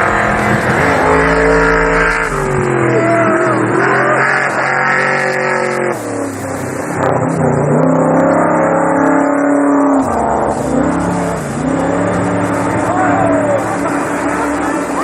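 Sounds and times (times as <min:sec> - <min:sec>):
race vehicle engines revving: 0:00.0 - 0:15.0.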